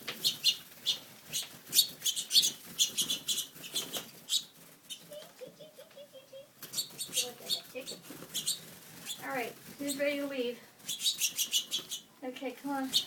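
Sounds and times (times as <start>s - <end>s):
wings fluttering: 0.0s - 13.0s
finches chirping: 0.1s - 13.0s.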